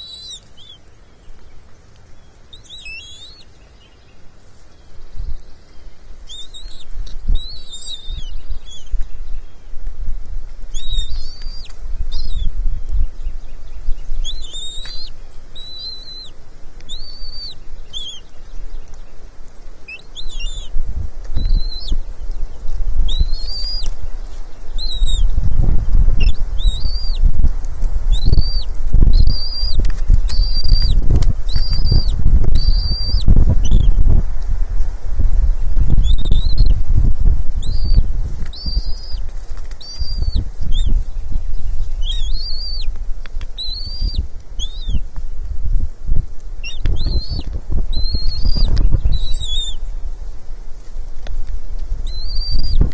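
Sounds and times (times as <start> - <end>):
eagles chirping: 0.0 - 9.4, 10.7 - 27.3, 28.1 - 34.0, 36.0 - 36.8, 37.6 - 45.2, 46.6 - 50.0, 51.8 - 52.9
low rumbling buffeting noise: 0.0 - 52.9.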